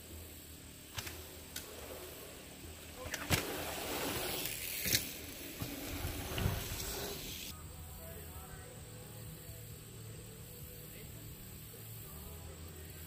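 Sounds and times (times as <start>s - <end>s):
bike tyres hissing on dirt: 0.0s - 13.0s.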